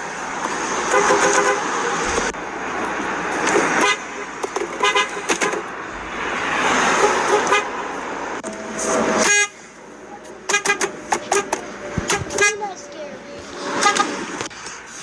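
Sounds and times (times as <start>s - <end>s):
loud noisy background: 0.0s - 15.0s
car horns honking: 0.8s - 2.3s, 3.4s - 14.4s.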